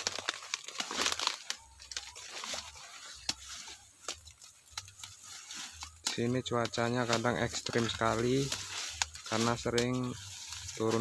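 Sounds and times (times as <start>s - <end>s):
plants being torn by hand: 0.0s - 11.0s
stems snapping: 0.0s - 11.0s.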